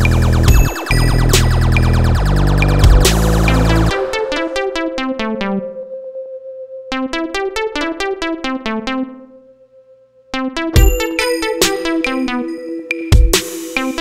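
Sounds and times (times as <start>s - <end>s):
synthesizer keyboard repeated notes: 0.0s - 14.0s.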